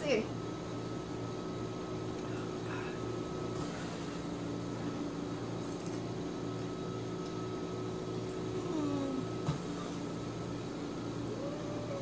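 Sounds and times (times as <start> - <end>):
mechanical appliance hum: 0.0 - 12.0.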